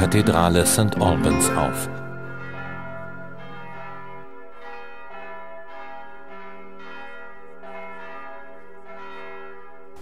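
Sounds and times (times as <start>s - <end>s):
church bells ringing: 0.0s - 10.0s.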